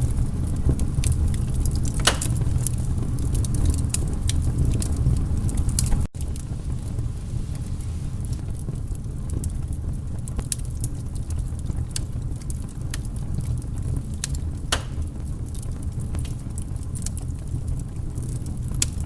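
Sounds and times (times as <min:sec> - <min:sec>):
fire crackles and pops: 0:00.0 - 0:19.0
low rumble of flames: 0:00.0 - 0:19.0.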